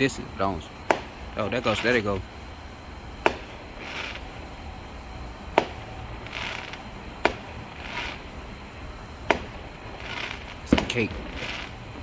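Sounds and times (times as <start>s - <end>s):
firework hissing bursts: 0.0s - 12.0s
firework reports: 0.0s - 12.0s.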